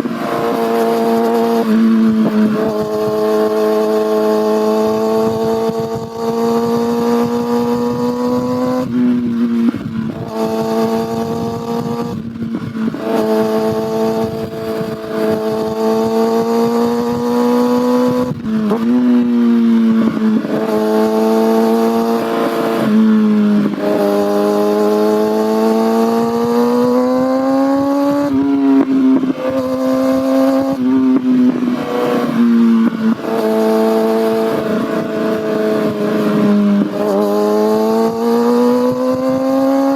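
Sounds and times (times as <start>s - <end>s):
sport bike engine accelerating: 0.0s - 39.9s.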